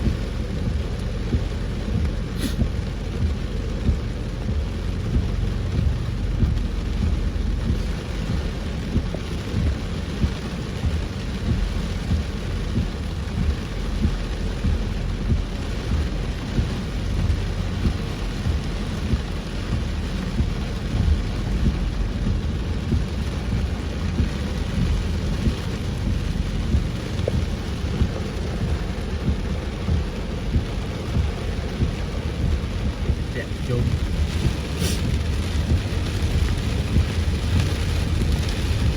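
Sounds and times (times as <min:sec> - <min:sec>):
deep rumble: 0:00.0 - 0:38.9
heavy rain on vehicle: 0:00.0 - 0:38.9.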